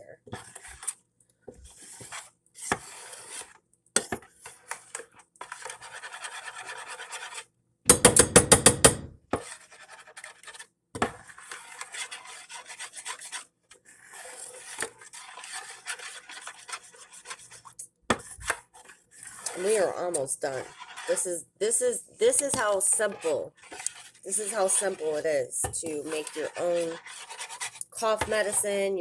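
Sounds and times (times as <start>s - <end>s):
utensil scraping a pan: 1.6s - 3.6s, 4.4s - 28.8s.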